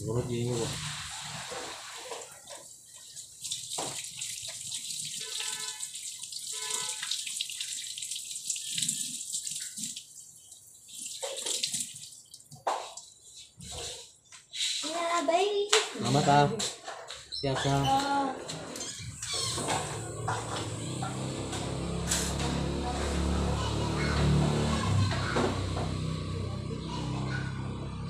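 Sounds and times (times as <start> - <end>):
water running: 0.0 - 14.2, 17.4 - 26.4.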